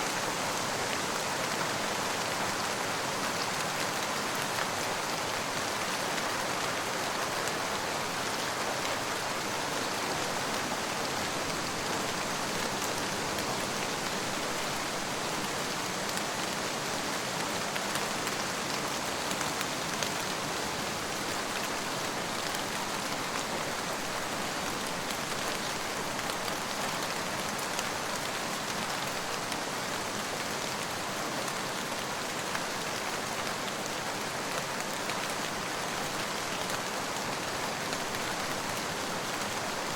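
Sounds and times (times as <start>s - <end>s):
rain pattering on a surface: 0.1s - 39.9s.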